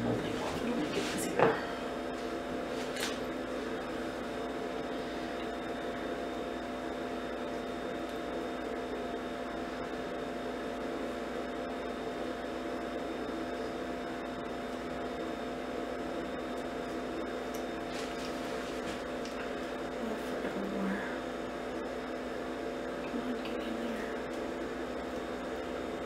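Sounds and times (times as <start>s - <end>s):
ice machine humming: 0.0s - 26.0s.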